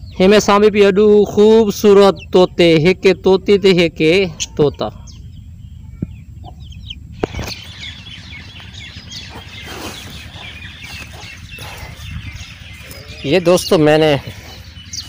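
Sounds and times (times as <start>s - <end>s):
birds chirping and clucking: 0.0s - 15.0s.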